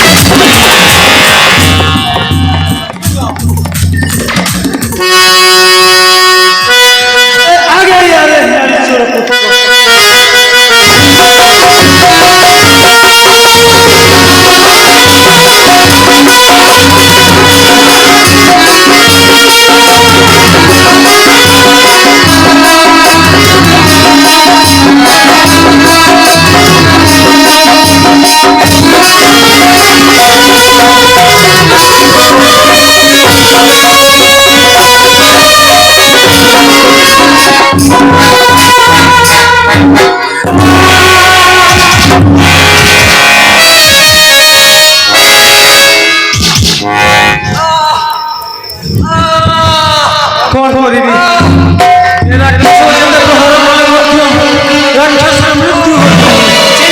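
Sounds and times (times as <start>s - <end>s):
rattling percussion: 0.0s - 5.6s, 10.9s - 53.8s
instrumental music with drums: 0.0s - 7.9s, 9.2s - 56.9s.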